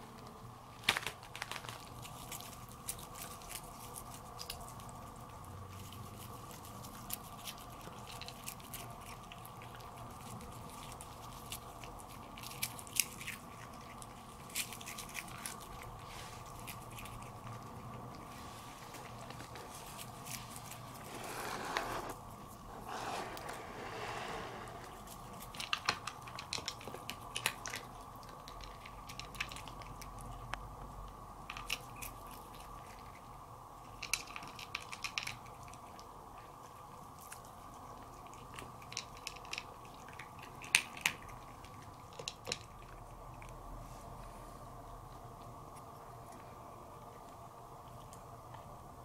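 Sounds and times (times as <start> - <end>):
cat crunching dry kibble: 0.1 - 24.0, 24.6 - 43.6.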